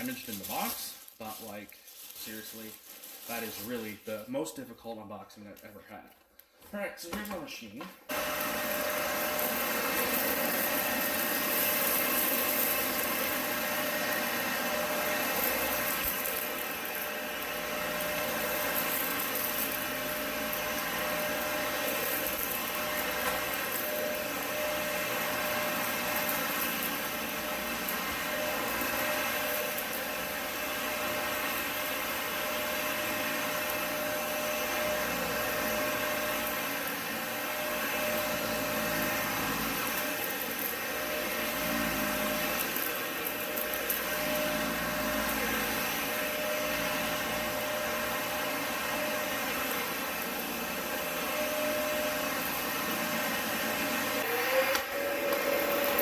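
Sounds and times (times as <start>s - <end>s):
vacuum cleaner running: 0.0s - 4.0s, 7.1s - 56.0s.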